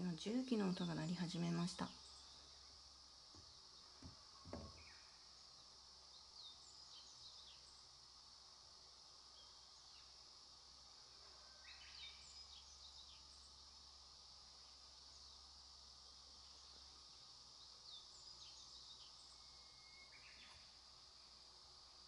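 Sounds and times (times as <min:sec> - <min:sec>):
high insect hiss: 0:00.0 - 0:22.0.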